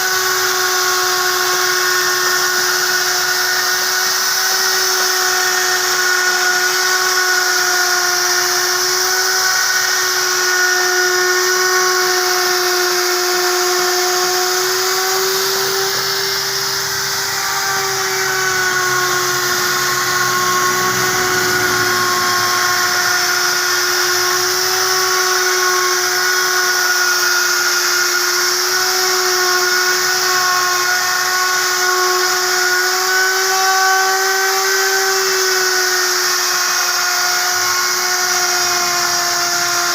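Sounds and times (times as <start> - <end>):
router motor whining: 0.0 - 39.9.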